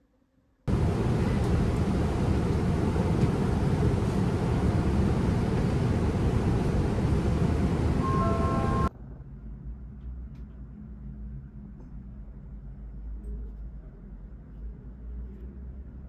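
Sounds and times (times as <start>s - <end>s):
vehicle rumble: 0.7s - 16.0s.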